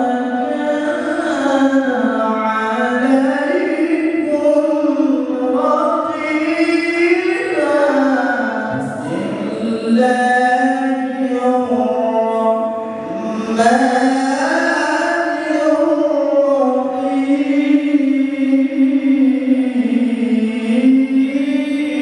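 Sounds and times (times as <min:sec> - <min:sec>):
man chanting: 0:00.0 - 0:22.0.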